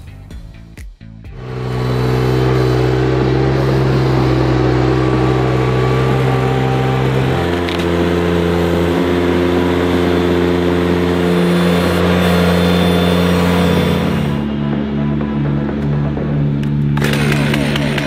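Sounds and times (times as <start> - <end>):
tractor engine running: 1.3 - 18.0.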